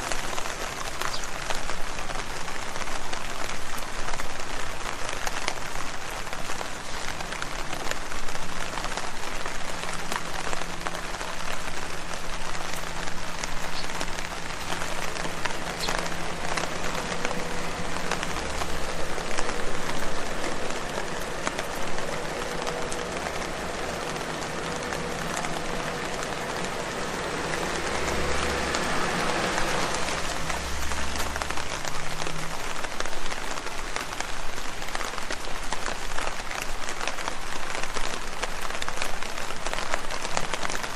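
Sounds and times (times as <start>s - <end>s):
rain on leaves: 0.0s - 40.9s.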